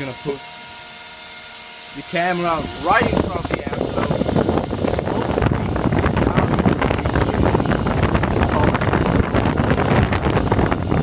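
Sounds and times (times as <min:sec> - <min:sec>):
wind buffeting on microphone: 0:02.2 - 0:11.0.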